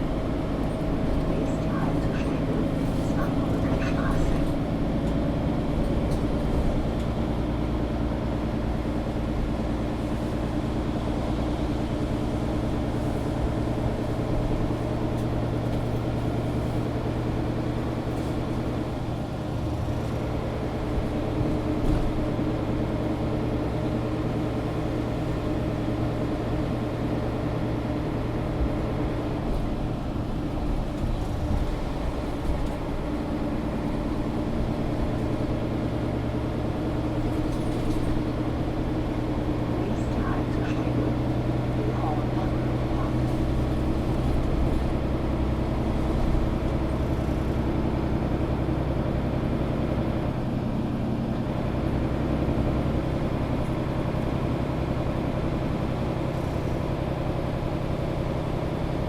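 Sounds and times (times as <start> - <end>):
bus engine hum: 0.0 - 59.0
road noise: 0.0 - 59.0.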